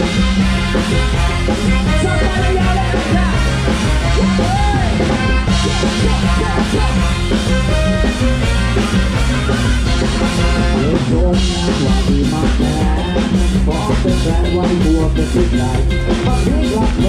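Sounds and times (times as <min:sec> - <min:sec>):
congas: 0:00.0 - 0:17.0
drum kit: 0:00.0 - 0:17.0
keyboard melody: 0:00.0 - 0:17.0.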